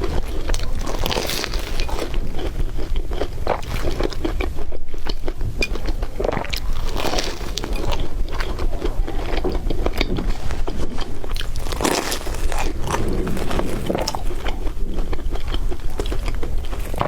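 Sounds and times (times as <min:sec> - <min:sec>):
crunching of crispy bread: 0:00.0 - 0:17.0.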